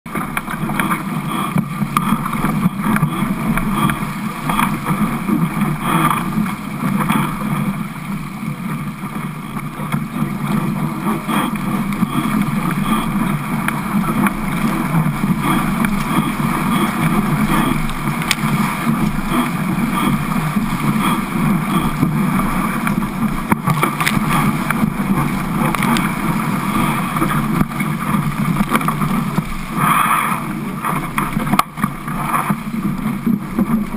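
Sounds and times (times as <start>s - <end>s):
water rushing past hull: 0.1s - 33.9s
wind on microphone: 0.1s - 33.9s.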